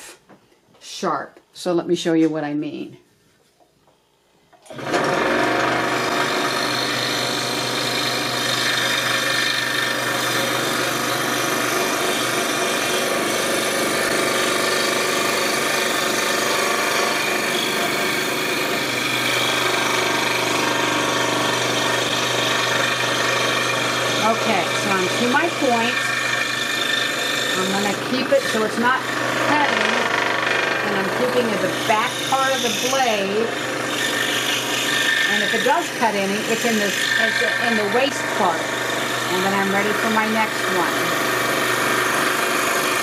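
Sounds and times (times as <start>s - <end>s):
scroll saw cutting wood: 4.7s - 43.0s.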